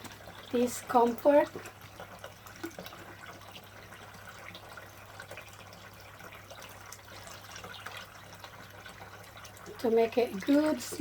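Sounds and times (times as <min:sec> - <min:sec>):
small water drips: 0:00.0 - 0:11.0
water splashing in a basin: 0:00.0 - 0:11.0.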